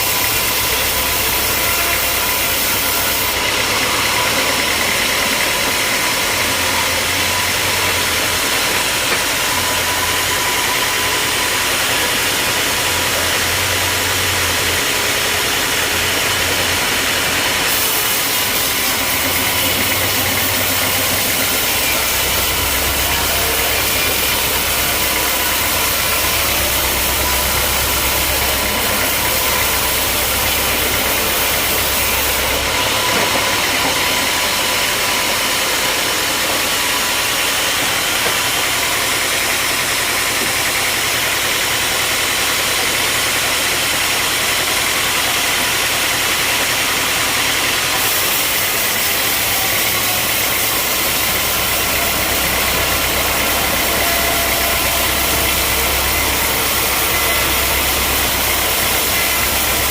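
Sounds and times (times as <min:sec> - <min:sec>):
harsh machine hiss: 0:00.0 - 0:59.9
sawmill machinery humming: 0:00.0 - 0:59.9.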